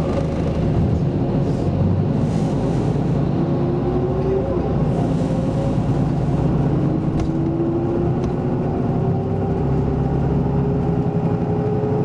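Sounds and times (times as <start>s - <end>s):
diesel engine hum: 0.0s - 12.0s.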